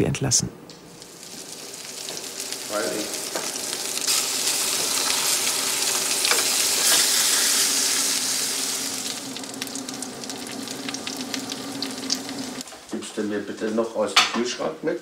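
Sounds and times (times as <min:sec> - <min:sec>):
small crackles: 0:00.7 - 0:13.0
food sizzling in a frying pan: 0:00.8 - 0:13.0.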